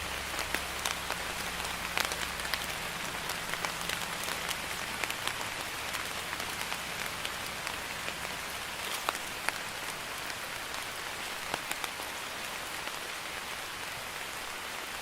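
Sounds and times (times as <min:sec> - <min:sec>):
light rain hiss: 0:00.0 - 0:15.0.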